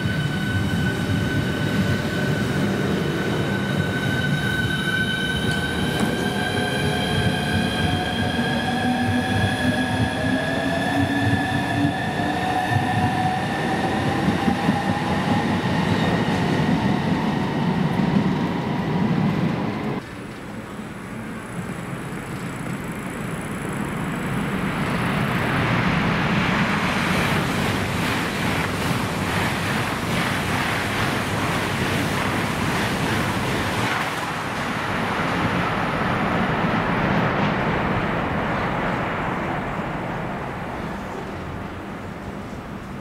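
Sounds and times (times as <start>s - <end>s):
high-speed train passing: 0.0s - 43.0s.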